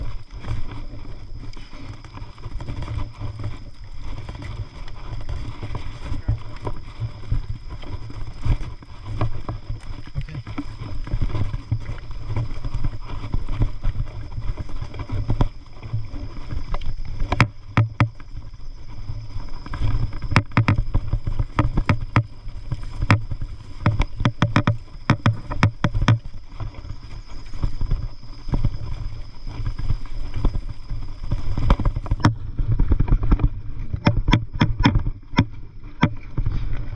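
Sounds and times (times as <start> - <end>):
bike rattling over bumps: 0.0 - 36.9
wind rumble on microphone: 0.0 - 36.9.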